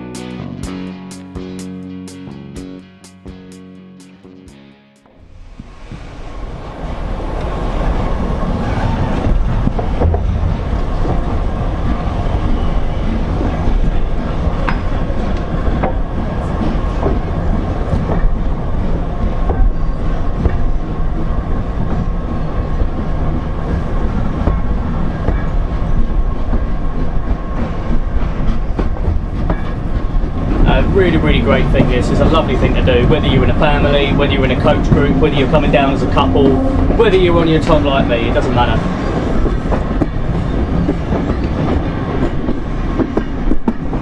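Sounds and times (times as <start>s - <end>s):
train carriage rumbling: 5.5s - 44.0s.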